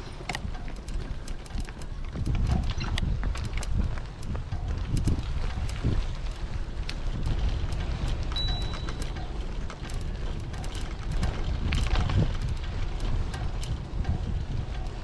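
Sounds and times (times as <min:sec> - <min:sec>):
bike clicks and rattles: 0:00.0 - 0:15.0
tyres and wind rumble: 0:00.0 - 0:15.0.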